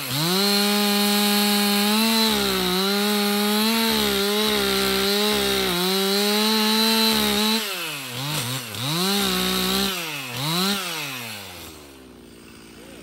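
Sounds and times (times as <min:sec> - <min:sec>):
chainsaw cutting boards: 0:00.0 - 0:13.0.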